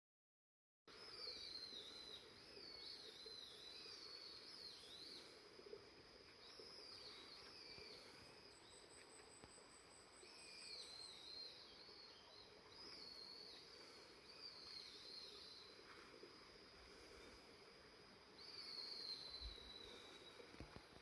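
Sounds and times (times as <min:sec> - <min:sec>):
faint birdsong: 0:00.9 - 0:21.0.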